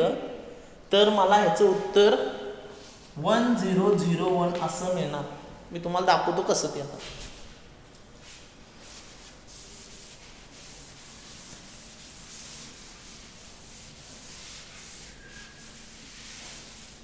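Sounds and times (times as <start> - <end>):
cloth wiping a chalkboard: 1.4 - 5.2, 6.5 - 17.0.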